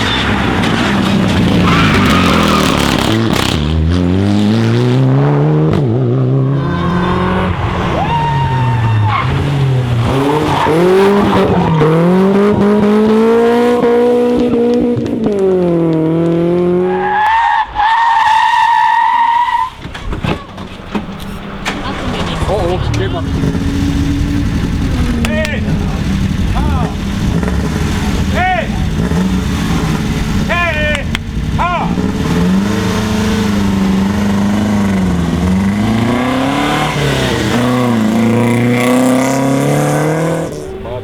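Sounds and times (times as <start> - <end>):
rally car engine accelerating: 0.0 - 17.4, 18.2 - 41.0.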